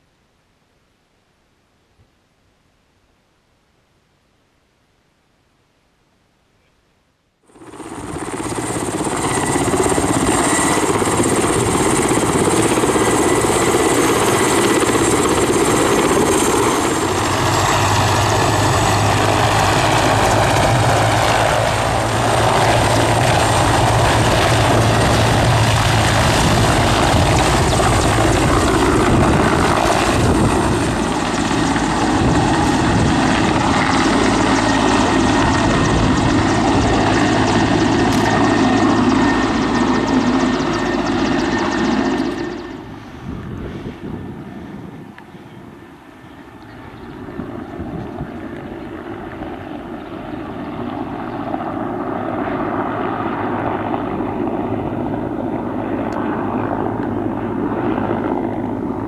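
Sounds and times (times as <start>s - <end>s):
helicopter rotor noise: 7.5s - 59.0s
high turbine whine: 7.5s - 59.0s.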